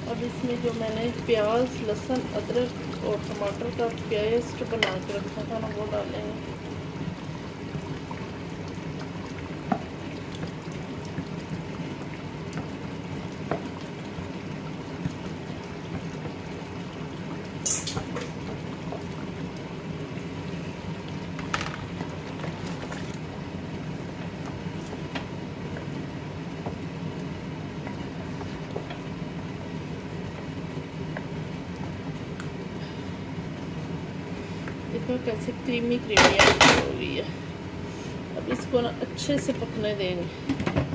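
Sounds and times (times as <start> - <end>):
curry bubbling in a pot: 0.0 - 40.9.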